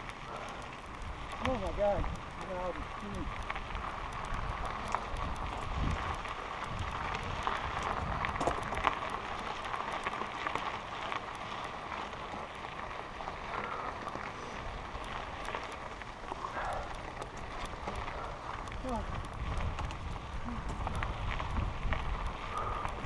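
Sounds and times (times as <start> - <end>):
bike tyres rolling on gravel: 0.0 - 23.0
small clicks and rattles: 0.0 - 23.0.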